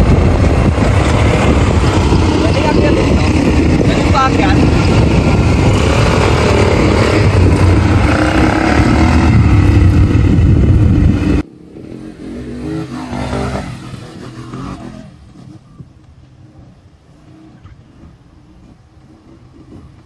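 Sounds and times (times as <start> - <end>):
quad bike engine revving: 0.0 - 20.0
quad bike engines rumbling: 0.0 - 20.0.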